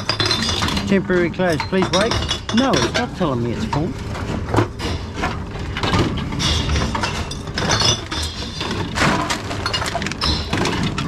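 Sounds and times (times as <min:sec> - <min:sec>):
glass bottles clinking: 0:00.0 - 0:11.0
vending machine mechanical hum: 0:00.0 - 0:11.0.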